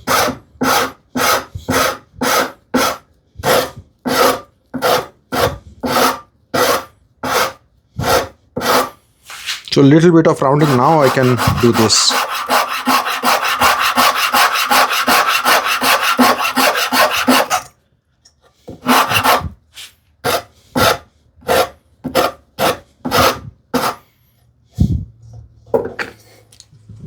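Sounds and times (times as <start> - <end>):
hand rasp scraping wood: 0.0 - 9.6, 10.4 - 17.8, 18.6 - 24.1.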